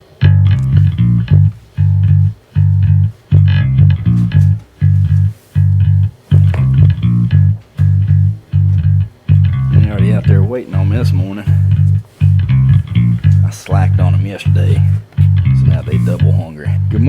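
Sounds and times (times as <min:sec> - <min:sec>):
bass guitar repeating notes: 0:00.0 - 0:17.0
guitar playing: 0:00.0 - 0:17.0.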